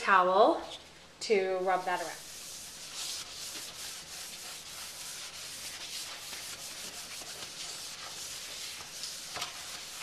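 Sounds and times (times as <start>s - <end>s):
paper towel scrubbing metal pan: 1.7s - 10.0s.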